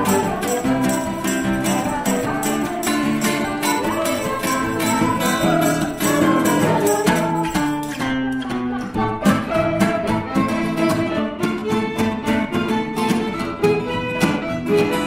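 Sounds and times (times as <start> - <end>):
violin melody: 0.0 - 7.7, 8.6 - 15.0
strummed guitar: 0.0 - 15.0.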